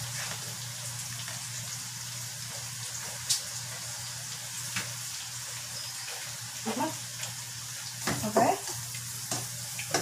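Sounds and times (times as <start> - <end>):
food sizzling in a wok: 0.0 - 10.0.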